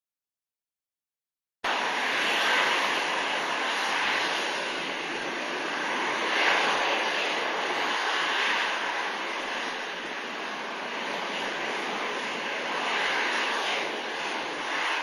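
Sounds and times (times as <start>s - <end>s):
jet engines rushing: 1.6s - 15.0s.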